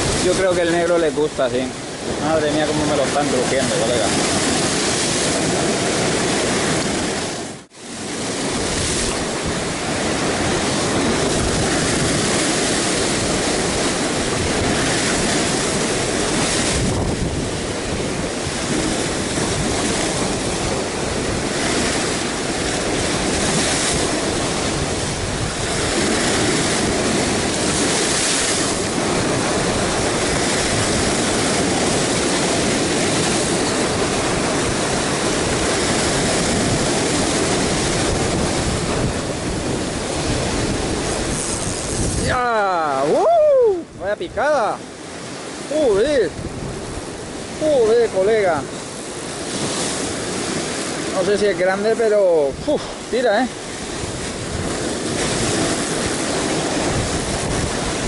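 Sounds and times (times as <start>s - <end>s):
sea surf breaking over rocks: 0.0s - 58.0s.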